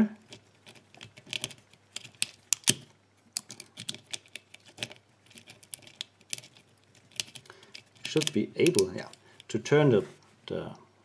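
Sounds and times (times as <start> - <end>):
lock pick clicking in a lock: 0.3 - 9.2.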